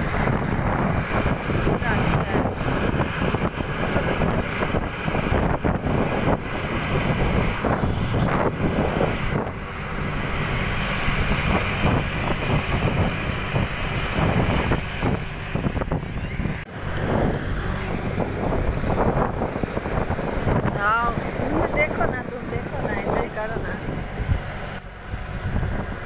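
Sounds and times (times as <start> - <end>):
bus running along road: 0.0 - 26.0
wind buffeting microphone: 0.0 - 26.0.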